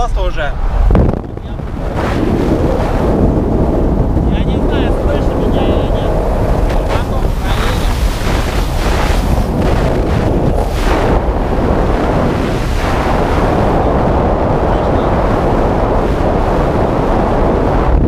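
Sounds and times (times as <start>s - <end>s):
wind rushing on microphone: 0.0s - 18.0s.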